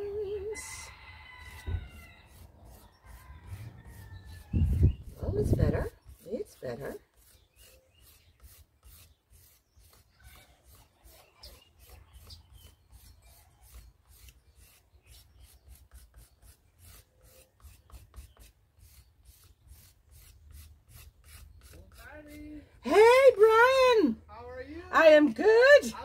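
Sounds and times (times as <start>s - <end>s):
metal rib scraping clay: 1.4s - 23.2s.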